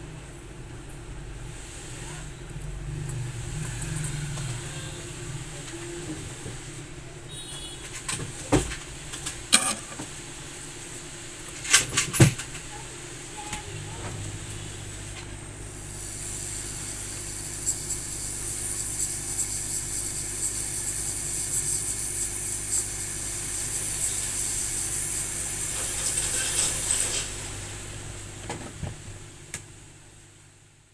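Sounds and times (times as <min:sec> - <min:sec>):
low electrical hum: 0:00.0 - 0:21.8, 0:22.7 - 0:30.9.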